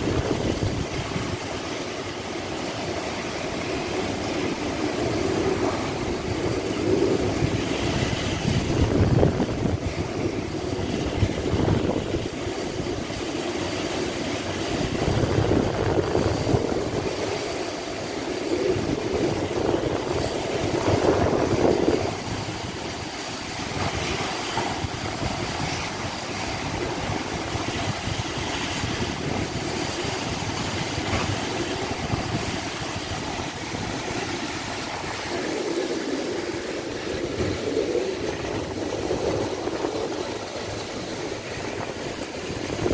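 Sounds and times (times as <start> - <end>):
heavy rain: 0.0 - 42.9
strong wind gusts: 0.0 - 42.9.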